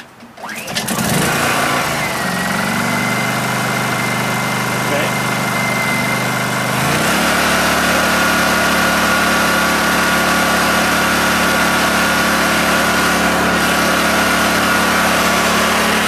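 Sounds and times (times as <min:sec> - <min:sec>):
generator engine running: 0:00.4 - 0:16.0.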